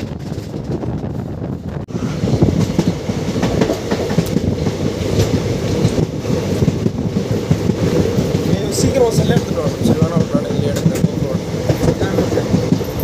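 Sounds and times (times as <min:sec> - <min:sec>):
train coach rumble: 0:00.0 - 0:13.0
rail-joint clicks: 0:02.3 - 0:13.0.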